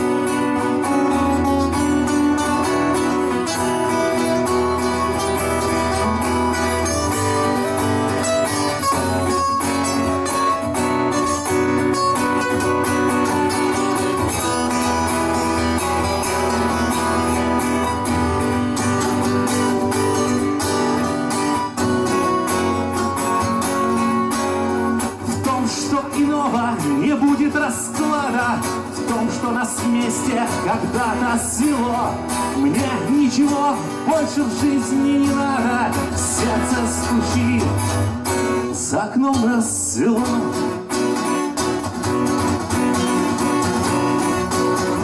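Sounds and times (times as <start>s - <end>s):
acoustic guitar strumming: 0.0s - 45.0s.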